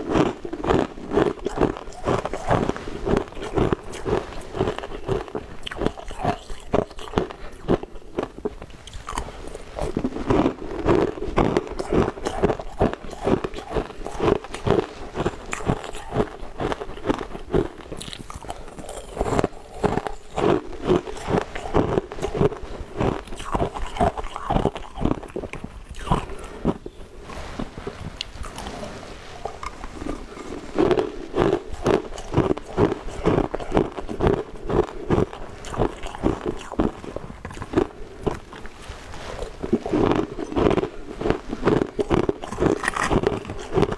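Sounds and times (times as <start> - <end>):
ice cubes crunching: 0.0 - 27.0, 28.2 - 43.9.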